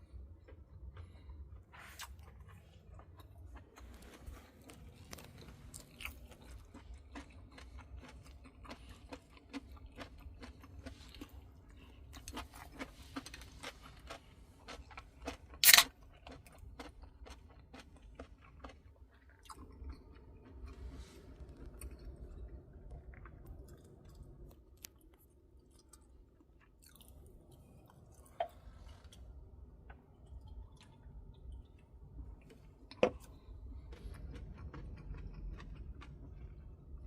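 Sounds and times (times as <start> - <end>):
low steady hum: 0.0 - 37.0
crisp chewing crunches: 0.4 - 37.0.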